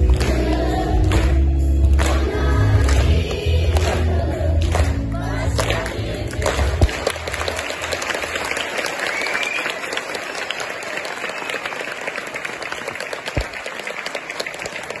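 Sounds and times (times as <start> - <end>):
crowd applause: 0.0 - 15.0.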